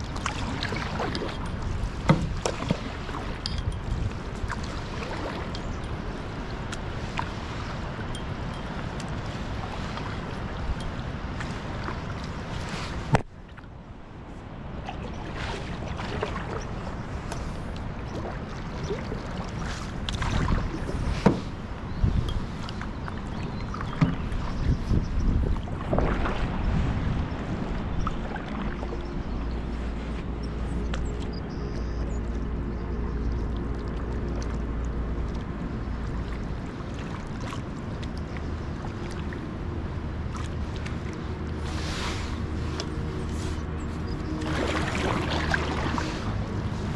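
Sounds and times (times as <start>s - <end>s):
paddle strokes: 0.0s - 13.7s, 14.3s - 46.9s
steady low rumble: 0.0s - 46.9s
water swishing around paddle: 0.0s - 46.9s.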